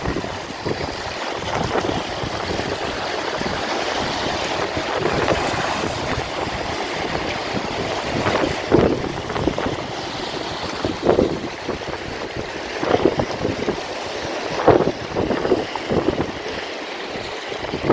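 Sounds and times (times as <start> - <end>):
wind buffeting microphone: 0.0 - 16.6, 17.2 - 17.9
waves washing over rocks: 0.0 - 17.9.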